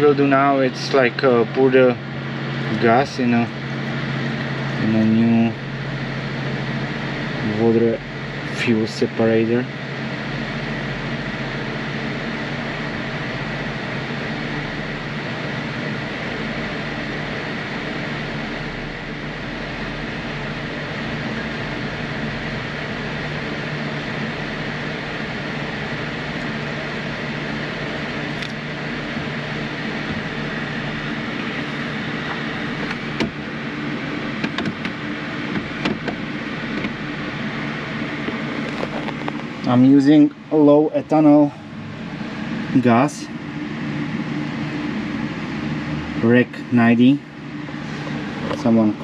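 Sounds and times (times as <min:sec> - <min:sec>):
steady mechanical hum: 0:00.0 - 0:49.0.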